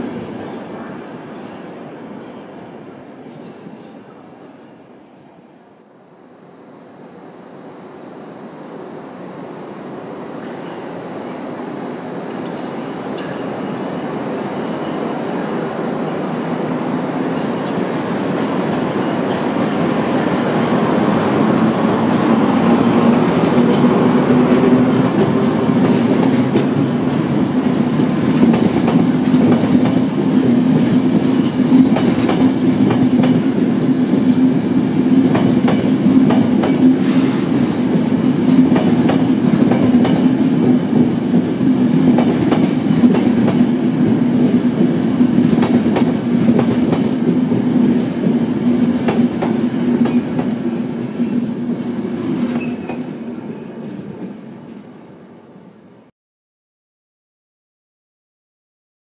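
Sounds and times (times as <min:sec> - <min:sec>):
train rumbling past: 0:06.5 - 0:56.1.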